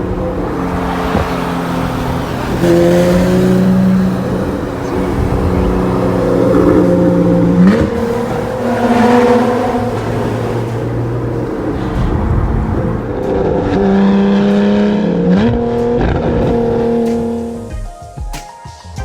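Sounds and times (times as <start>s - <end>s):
sports car engine at speed: 0.0s - 17.7s
exhaust crack: 0.0s - 17.8s.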